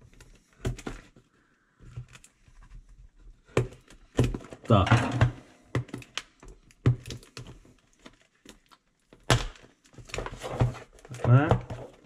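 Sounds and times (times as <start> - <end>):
packaging clicks and taps: 1.8 - 12.0.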